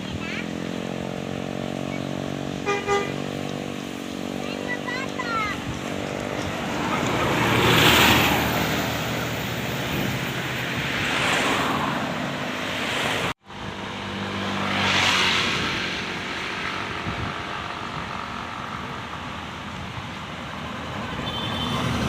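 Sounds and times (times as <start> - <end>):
steady engine hum: 0.0 - 22.0
vehicles passing by: 0.0 - 22.0.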